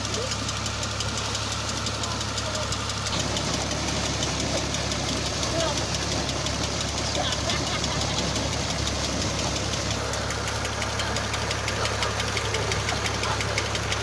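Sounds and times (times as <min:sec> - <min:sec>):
tractor diesel engine clattering: 0:00.0 - 0:14.0.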